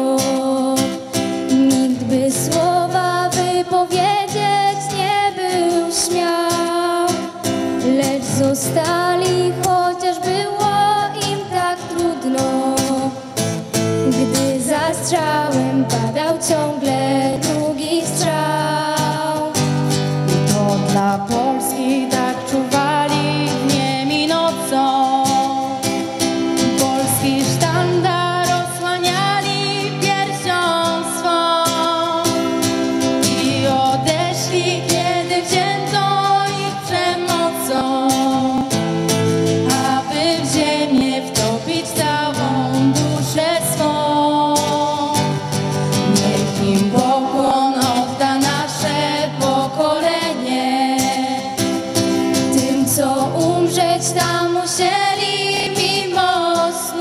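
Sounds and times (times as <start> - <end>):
young women singing together: 0.0 - 13.4, 14.0 - 19.8, 20.5 - 38.8, 39.6 - 57.0
strummed acoustic guitar: 0.0 - 57.0.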